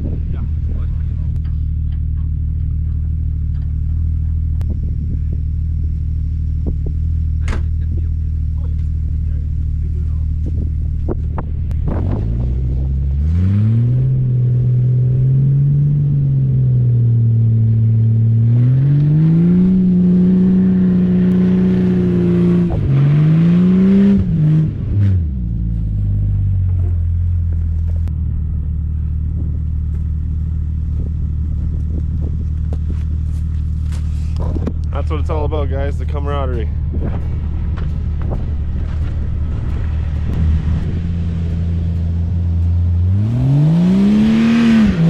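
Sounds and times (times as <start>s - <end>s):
vehicle engine idling and revving: 0.0s - 45.0s.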